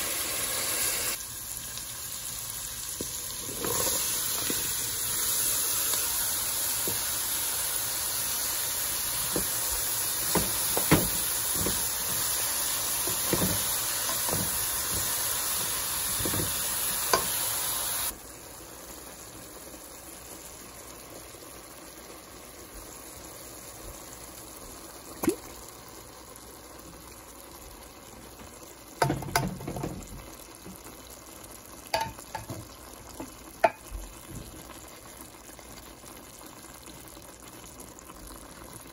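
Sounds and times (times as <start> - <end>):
food sizzling in a pot: 0.0 - 38.9.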